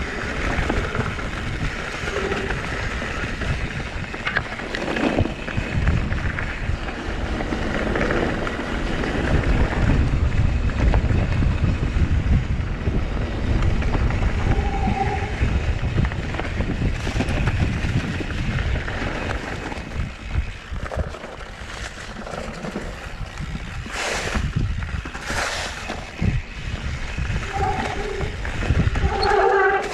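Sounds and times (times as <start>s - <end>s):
bike tyres rattling on rough ground: 0.0s - 29.9s
wind buffeting microphone: 0.0s - 29.9s.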